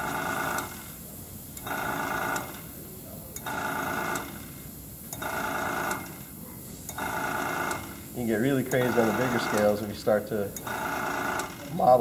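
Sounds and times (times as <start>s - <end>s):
airbrush compressor motor bursts: 0.0s - 2.8s, 3.4s - 12.0s.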